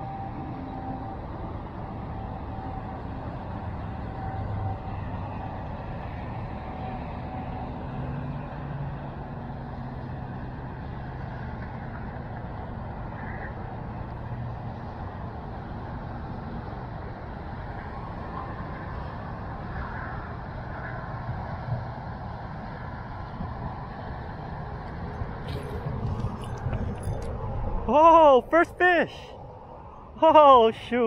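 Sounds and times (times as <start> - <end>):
low engine drone: 0.0 - 31.0
traffic rumble: 0.0 - 31.0.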